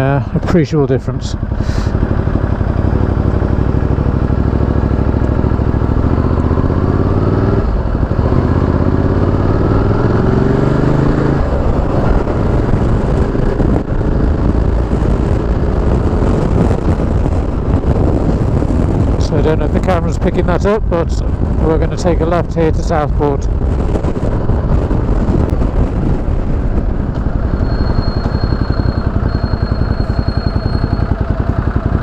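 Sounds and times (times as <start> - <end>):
motorcycle engine accelerating: 0.0 - 32.0
wind rush over microphone: 1.4 - 32.0.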